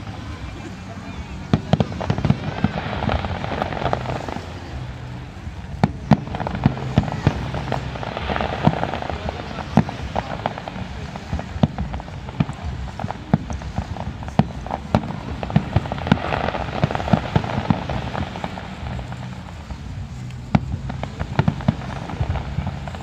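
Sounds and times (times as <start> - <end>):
fireworks banging and crackling: 0.0 - 23.0.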